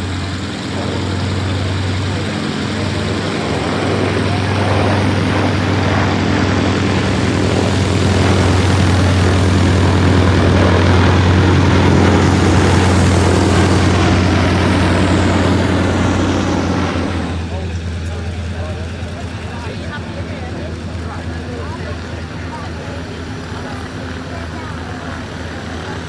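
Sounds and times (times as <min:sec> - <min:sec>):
aircraft radial engines passing: 0:00.0 - 0:26.0.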